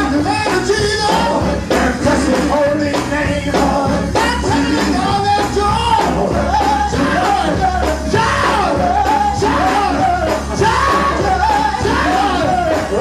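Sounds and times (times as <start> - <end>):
band accompaniment: 0.0 - 13.0
lead singer singing gospel: 0.0 - 13.0.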